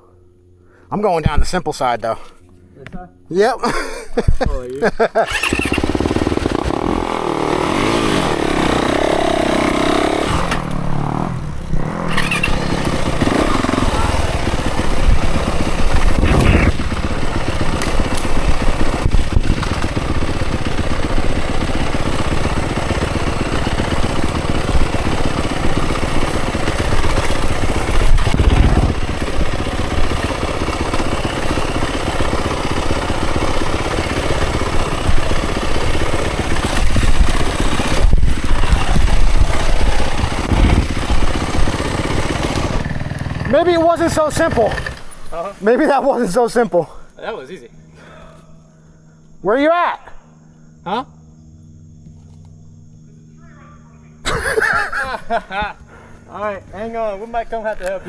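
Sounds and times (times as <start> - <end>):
dirt bike engine revving: 3.6 - 49.7, 50.3 - 58.0.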